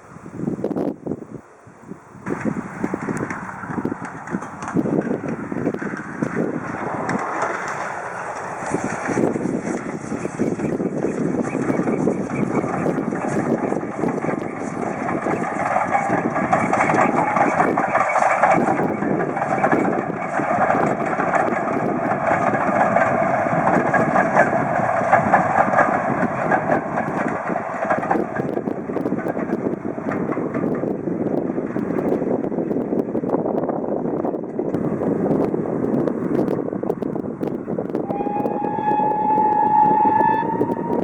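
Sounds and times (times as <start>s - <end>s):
steam train rumbling past: 1.4s - 33.6s, 34.7s - 41.0s.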